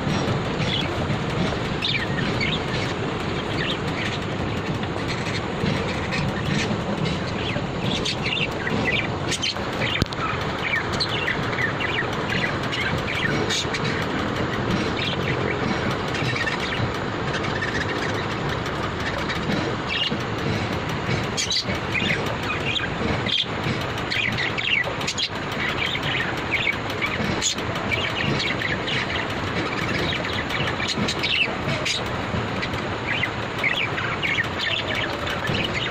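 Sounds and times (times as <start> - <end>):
steady background noise: 0.0 - 35.9.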